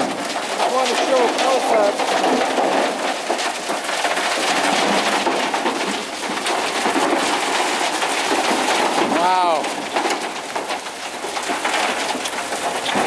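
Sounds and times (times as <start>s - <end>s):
concrete chunks clattering down chute: 0.0s - 13.0s.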